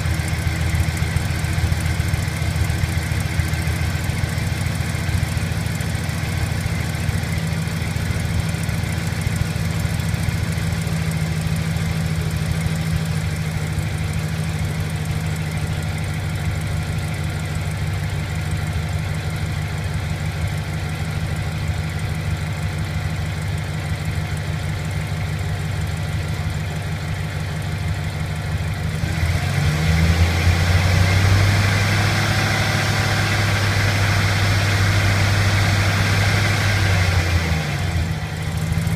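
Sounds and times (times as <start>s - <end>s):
truck engine idling: 0.0s - 29.2s, 30.7s - 38.9s
engine ticking: 0.0s - 38.9s.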